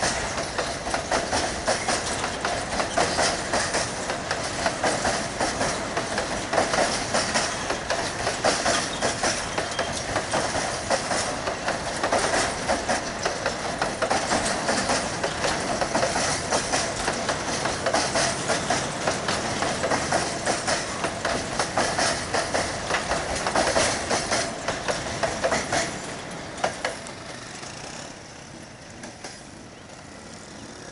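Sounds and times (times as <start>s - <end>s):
train wheels clattering over rails: 0.0s - 30.8s.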